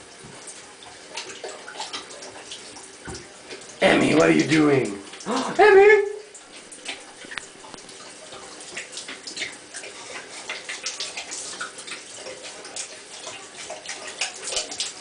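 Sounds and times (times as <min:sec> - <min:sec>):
tap water trickling: 0:00.0 - 0:15.0
dog lapping water: 0:00.2 - 0:05.6, 0:06.4 - 0:15.0.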